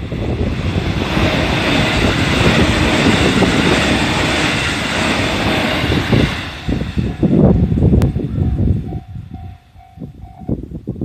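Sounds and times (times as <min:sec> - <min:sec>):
electric train running on rails: 0:00.0 - 0:11.0.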